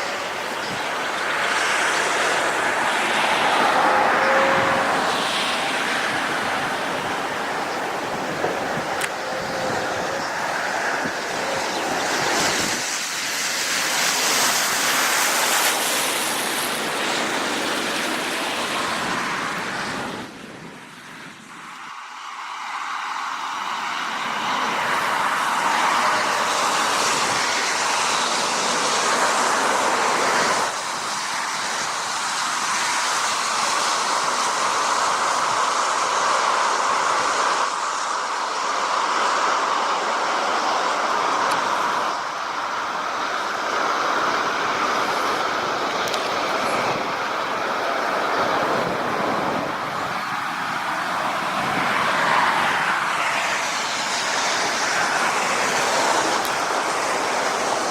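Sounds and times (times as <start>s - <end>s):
floodwater roaring: 0.0s - 57.9s.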